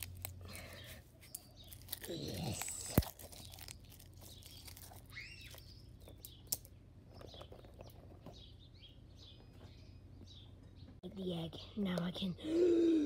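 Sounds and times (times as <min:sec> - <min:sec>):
faint bird chirps: 0:00.5 - 0:11.4.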